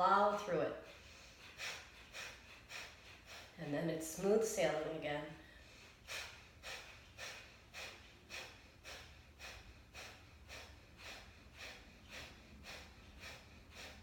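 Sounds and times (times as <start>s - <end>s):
quiet inhales: 0.8s - 4.3s, 5.4s - 14.0s.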